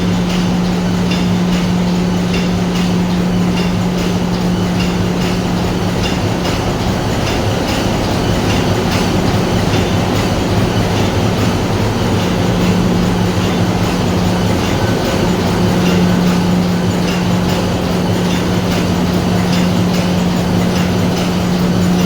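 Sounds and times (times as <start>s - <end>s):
faint regular ticking: 0.0s - 22.0s
marine diesel engine droning: 0.0s - 22.0s.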